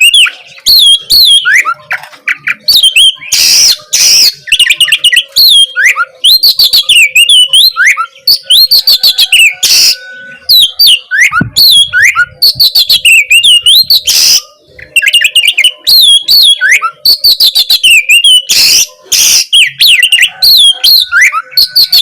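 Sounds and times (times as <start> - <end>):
bird singing whistled song: 0.0 - 22.0
harsh rasping bird notes: 0.0 - 22.0.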